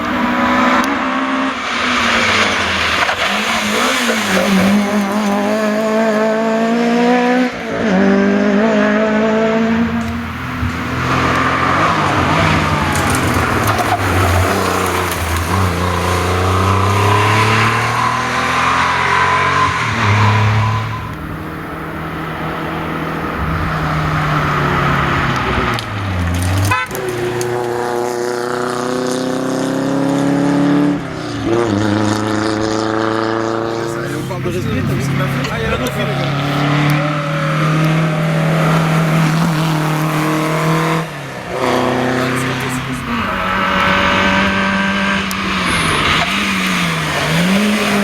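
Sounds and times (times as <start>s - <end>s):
rally car engines at high revs: 0.0s - 48.0s.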